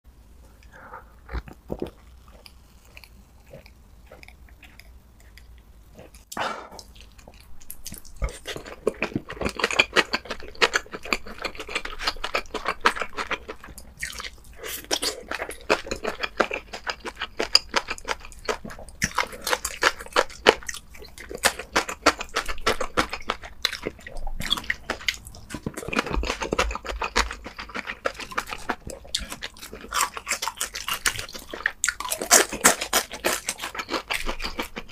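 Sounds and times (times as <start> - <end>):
person chewing and crunching food: 0.5 - 34.9.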